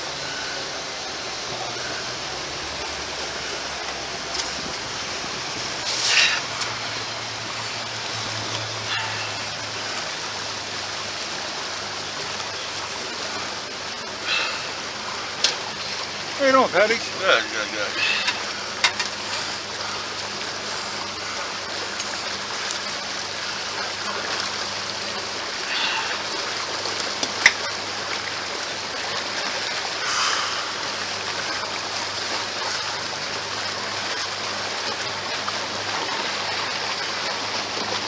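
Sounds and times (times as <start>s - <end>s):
faint low engine hum: 0.0s - 38.0s
water rushing and splashing: 0.0s - 38.0s.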